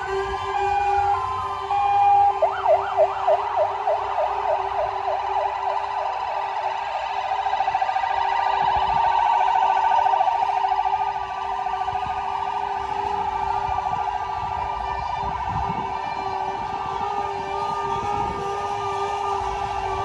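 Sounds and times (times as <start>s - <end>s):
fire engine siren warbling: 0.0s - 20.0s.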